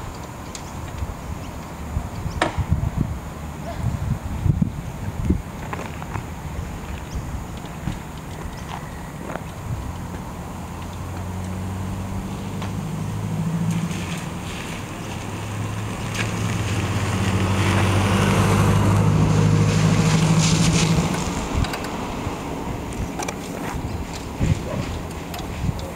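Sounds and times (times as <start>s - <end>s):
engine humming: 0.0s - 25.9s.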